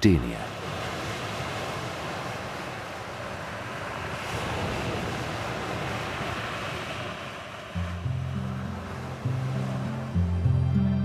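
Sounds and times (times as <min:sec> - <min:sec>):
waves washing on shore: 0:00.0 - 0:10.3.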